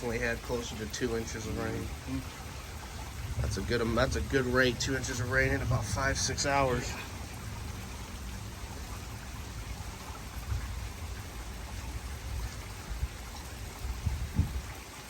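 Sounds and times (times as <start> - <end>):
floodwater rushing through creek: 0.0 - 15.0
heavy rain falling: 0.0 - 15.0.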